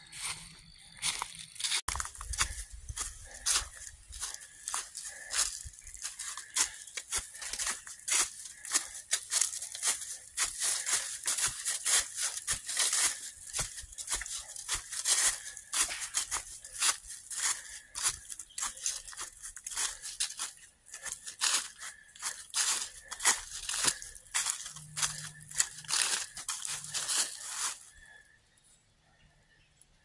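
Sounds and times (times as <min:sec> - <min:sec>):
footsteps crunching dry leaves: 0:00.0 - 0:28.1.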